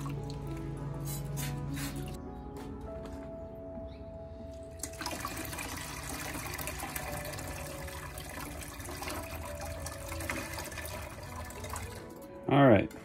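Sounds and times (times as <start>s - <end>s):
water pouring and splashing: 0.0s - 2.2s, 4.6s - 13.0s.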